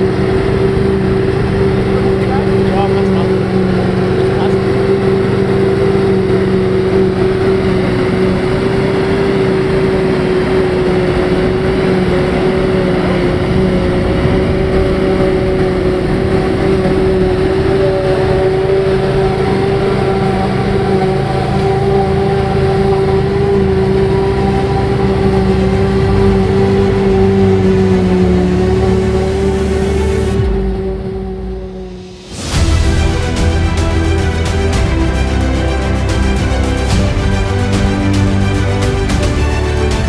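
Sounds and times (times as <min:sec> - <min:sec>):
constant whine: 0:00.0 - 0:40.0
engines low rumble: 0:00.0 - 0:40.0
higher tones: 0:00.0 - 0:40.0
machinery drone: 0:00.0 - 0:40.0.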